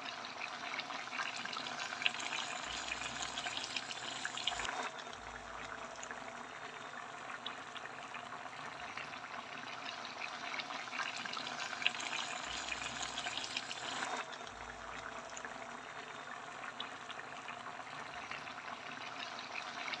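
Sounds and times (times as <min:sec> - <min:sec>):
food simmering and sizzling: 0:00.0 - 0:20.0.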